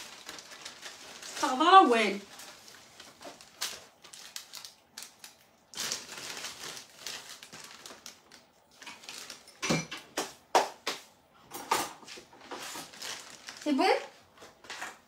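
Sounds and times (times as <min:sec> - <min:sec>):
plastic bag crinkling: 0:00.0 - 0:09.8, 0:12.3 - 0:15.0.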